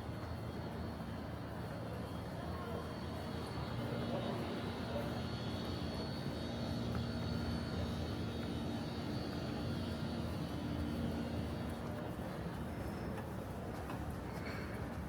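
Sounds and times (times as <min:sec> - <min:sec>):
engine drone: 0:00.0 - 0:13.2
faint high whine: 0:00.0 - 0:13.4.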